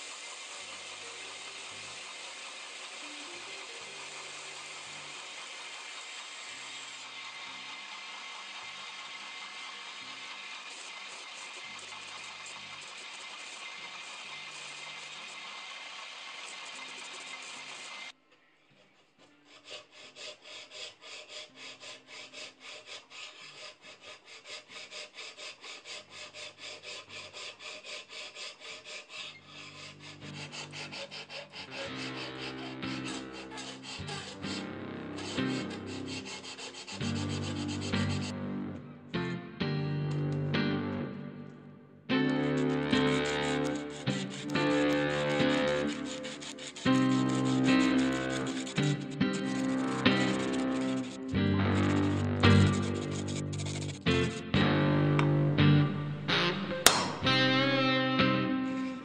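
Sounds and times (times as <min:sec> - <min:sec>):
belt grinder grinding steel blade: 0:00.0 - 0:38.4, 0:42.2 - 0:55.4, 0:56.8 - 0:59.0.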